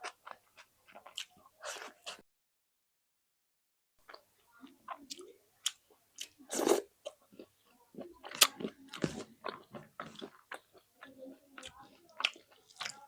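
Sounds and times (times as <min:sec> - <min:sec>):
chewing and wet mouth sounds: 0:00.0 - 0:02.2, 0:04.0 - 0:13.0.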